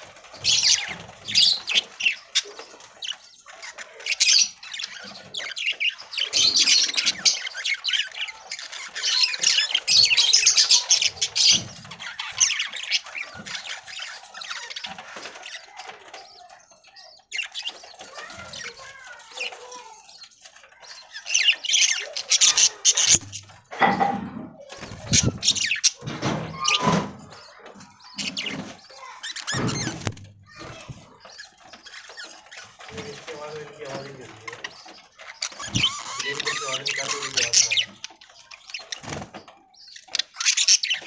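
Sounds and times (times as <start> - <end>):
budgerigars chattering and chirping: 0.0 - 24.0, 24.6 - 41.0.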